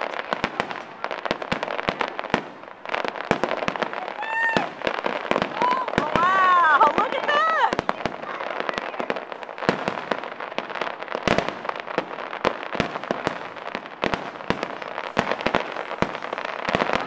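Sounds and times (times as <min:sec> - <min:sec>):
crackling fireworks: 0:00.0 - 0:17.0
firework bangs: 0:00.0 - 0:17.0.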